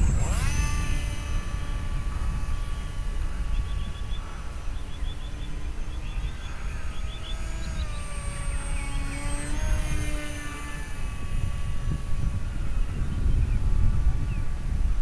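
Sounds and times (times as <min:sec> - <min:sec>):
birds chirping: 0:00.0 - 0:14.6
low rumbling noise: 0:00.0 - 0:15.0
model jet engines whining overhead: 0:00.0 - 0:15.0.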